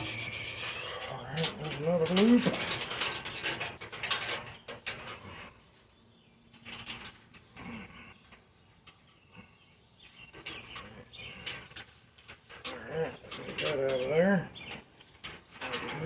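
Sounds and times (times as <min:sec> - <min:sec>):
wires rustling and clicking: 0:00.0 - 0:16.0.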